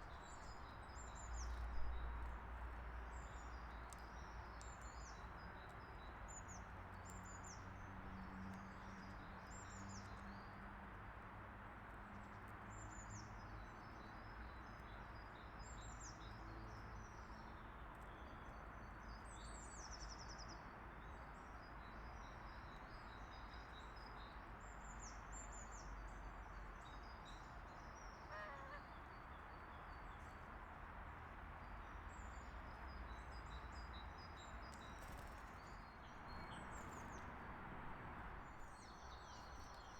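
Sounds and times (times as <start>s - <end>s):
small birds singing: 0.0s - 2.3s, 2.9s - 10.6s, 12.7s - 30.4s, 31.6s - 37.5s, 38.4s - 39.9s
outdoor background noise: 0.0s - 39.9s.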